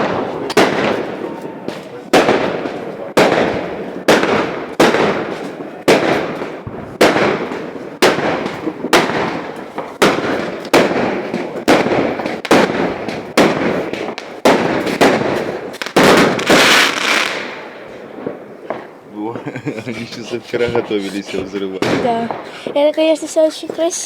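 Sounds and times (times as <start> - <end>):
fireworks bangs with crackling: 0.0 - 24.0.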